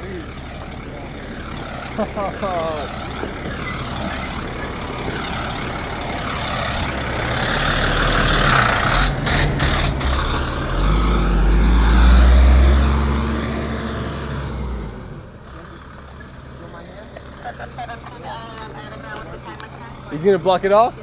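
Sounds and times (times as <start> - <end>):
heavy truck driving past: 0.0 - 21.0.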